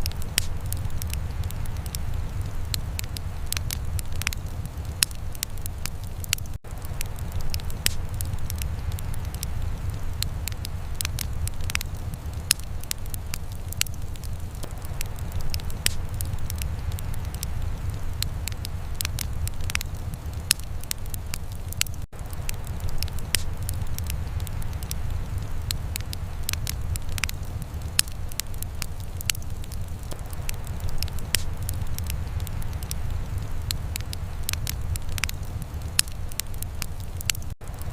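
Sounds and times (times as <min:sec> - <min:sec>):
sharp pops and snaps: 0:00.0 - 0:37.9
steady low rumble: 0:00.0 - 0:37.9
wood fire crackling: 0:00.0 - 0:37.9.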